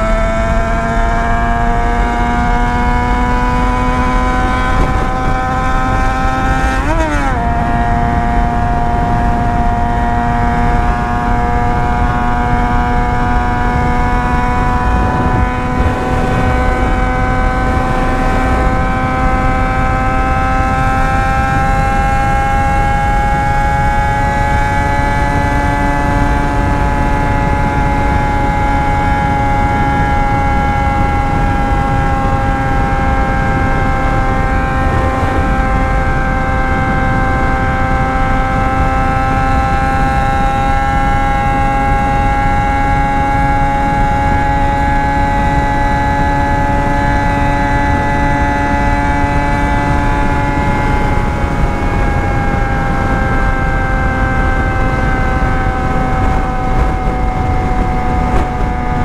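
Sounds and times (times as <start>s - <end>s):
motorcycle engine at high revs: 0.0s - 59.0s
wind rush on microphone: 0.0s - 59.0s.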